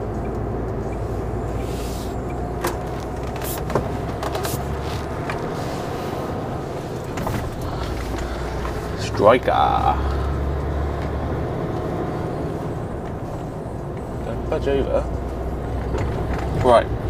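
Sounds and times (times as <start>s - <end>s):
diesel lorry engine running: 0.0s - 17.0s.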